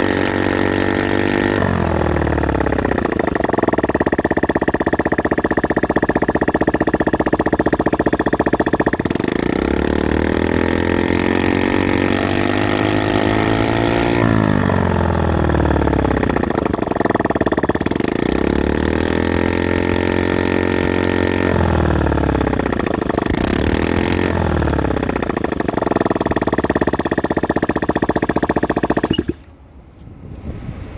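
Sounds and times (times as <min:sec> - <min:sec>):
loud moped engine revving: 0:00.0 - 0:29.5.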